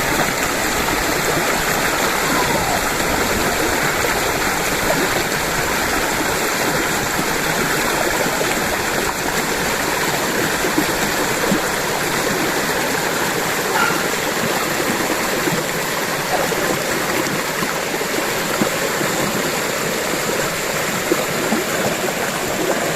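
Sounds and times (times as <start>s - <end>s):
river water flowing: 0.0s - 22.9s.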